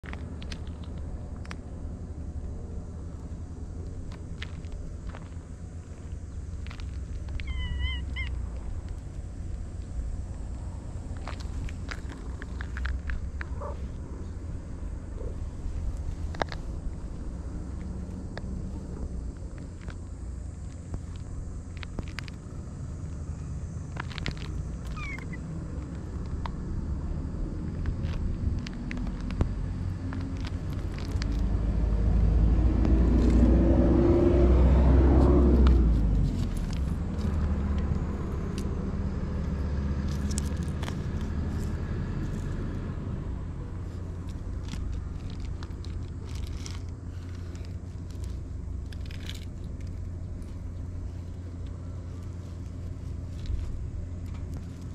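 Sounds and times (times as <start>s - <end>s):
motor vehicle passing: 0.0s - 54.9s
steady low rumble: 0.0s - 54.9s.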